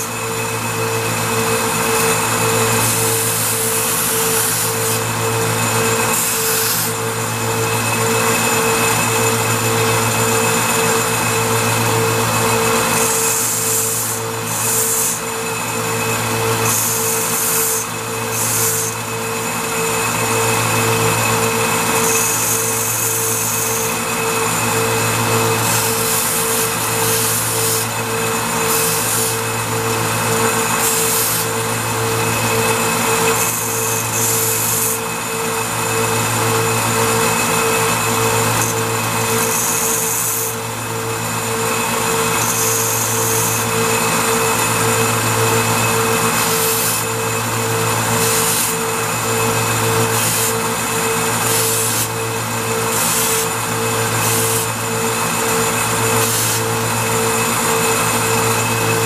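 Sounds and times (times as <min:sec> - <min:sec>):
belt sander motor hum: 0:00.0 - 0:59.0
steel grinding on sanding belt: 0:00.0 - 0:59.0.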